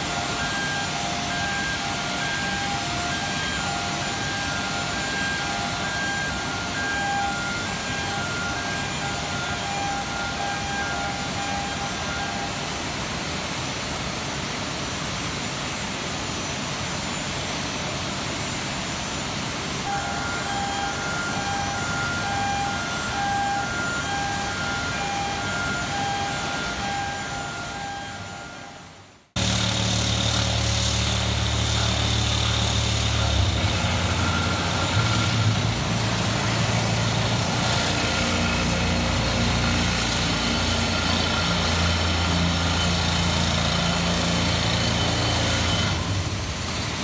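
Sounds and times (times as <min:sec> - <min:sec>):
warning beeper pulses: 0:00.0 - 0:12.9, 0:19.8 - 0:46.3
steady industrial roar: 0:00.0 - 0:47.0.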